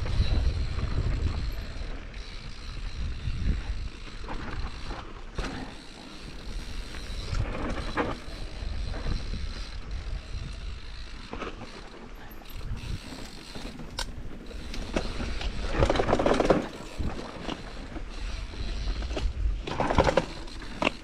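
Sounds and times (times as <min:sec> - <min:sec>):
bike creaking and rattling: 0:00.0 - 0:21.0
bike tyres rumbling on trail: 0:00.0 - 0:21.0.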